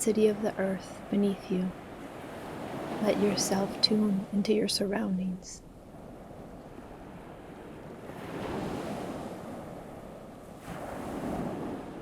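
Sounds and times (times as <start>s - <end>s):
ocean waves breaking on shore: 0.0s - 12.0s.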